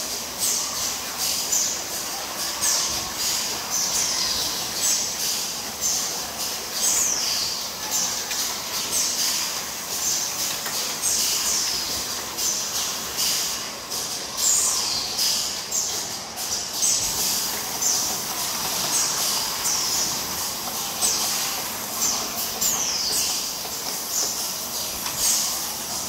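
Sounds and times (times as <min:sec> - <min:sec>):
steady mechanical hiss: 0:00.0 - 0:26.0.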